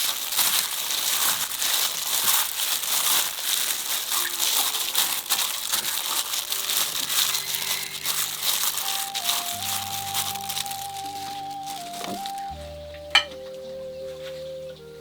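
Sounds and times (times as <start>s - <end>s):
food sizzling in hot oil: 0.0s - 12.5s
soft background music: 1.6s - 15.0s.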